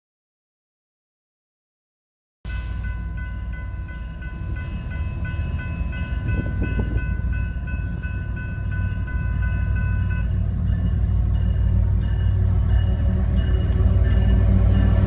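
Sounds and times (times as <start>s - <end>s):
crossing warning bell ringing: 2.5s - 15.0s
train rumbling: 2.5s - 15.0s.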